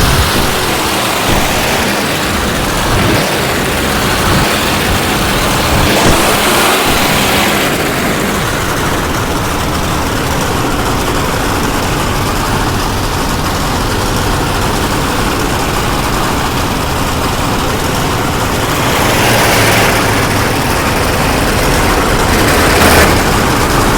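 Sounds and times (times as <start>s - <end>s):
truck engine running: 0.0s - 23.9s.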